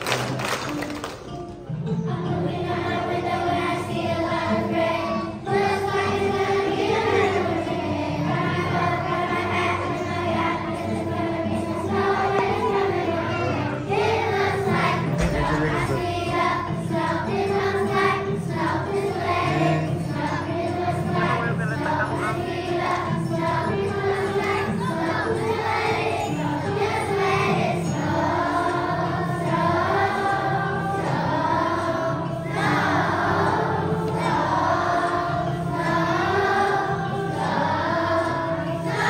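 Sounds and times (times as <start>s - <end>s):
children's choir singing: 0.0s - 39.0s.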